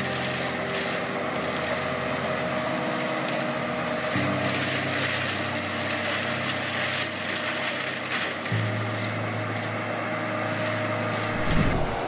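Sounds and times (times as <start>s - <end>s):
diesel engine running: 0.0s - 12.0s
mulching head grinding ground: 0.0s - 12.0s.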